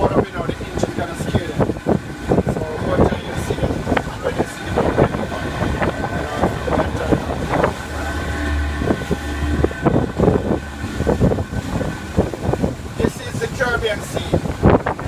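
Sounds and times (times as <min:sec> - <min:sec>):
boat engine humming: 0:00.0 - 0:15.0
wind buffeting microphone: 0:00.0 - 0:15.0.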